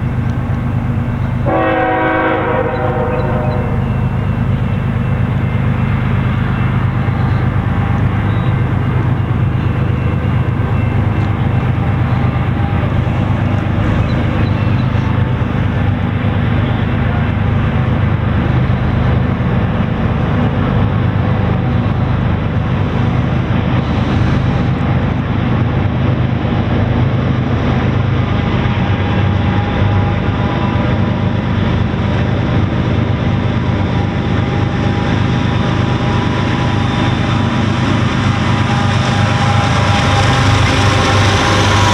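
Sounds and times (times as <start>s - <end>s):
freight train passing: 0.0s - 41.9s.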